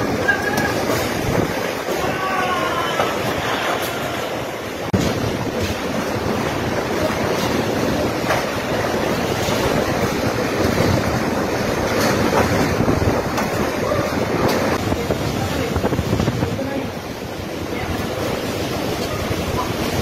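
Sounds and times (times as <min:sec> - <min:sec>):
driving rain: 0:00.0 - 0:20.0
strong wind roaring: 0:00.0 - 0:20.0
wind gusts buffeting microphone: 0:00.0 - 0:20.0.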